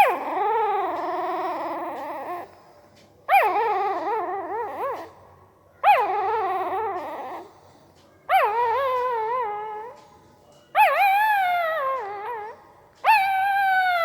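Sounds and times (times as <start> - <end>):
puppy whimpering: 0.0 - 2.7, 3.3 - 7.7, 8.3 - 14.0.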